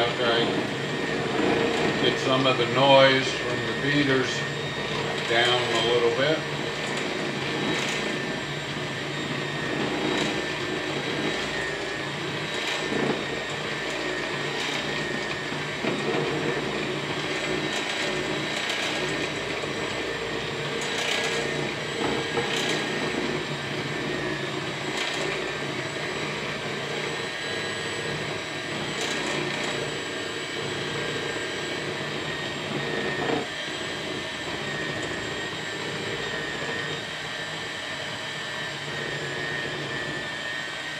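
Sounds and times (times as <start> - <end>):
electric hand mixer whirring: 0.0 - 40.9.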